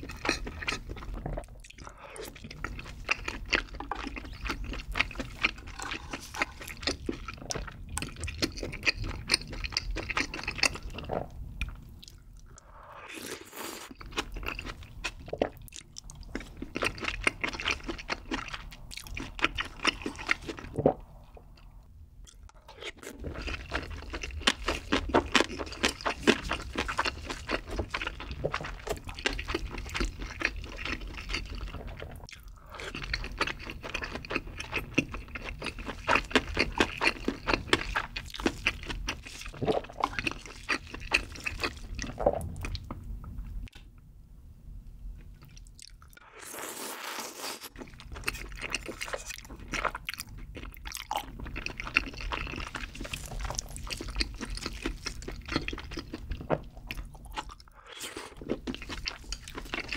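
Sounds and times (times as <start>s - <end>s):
wet chewing and smacking: 0.0s - 12.7s, 13.9s - 43.8s, 45.2s - 46.2s, 47.7s - 59.9s.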